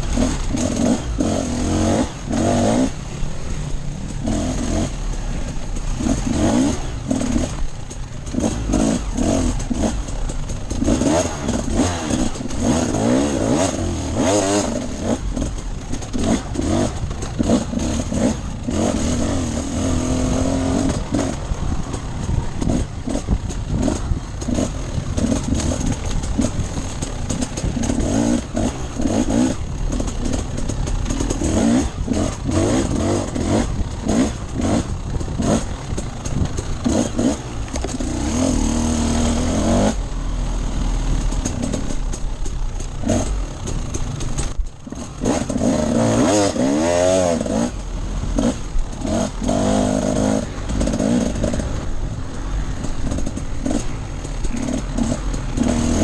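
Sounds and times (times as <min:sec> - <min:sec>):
motorcycle engine revving: 0:00.0 - 0:56.0
wind and rumble noise: 0:00.0 - 0:56.0.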